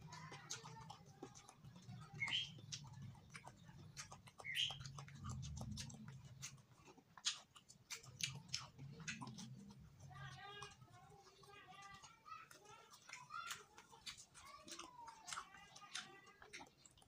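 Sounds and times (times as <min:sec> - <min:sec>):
wet smacking chewing: 0:00.0 - 0:17.0.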